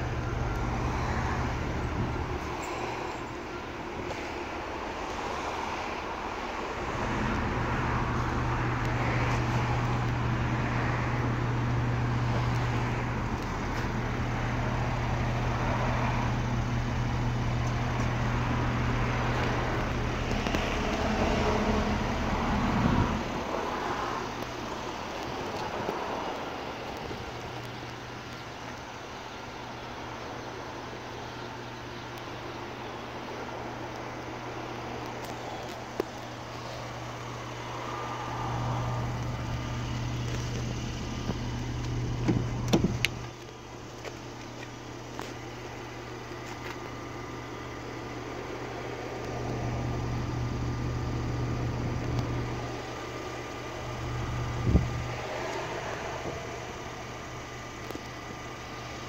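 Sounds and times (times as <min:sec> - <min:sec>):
steady low hum: 0:00.0 - 0:59.0
street traffic: 0:00.0 - 0:59.0.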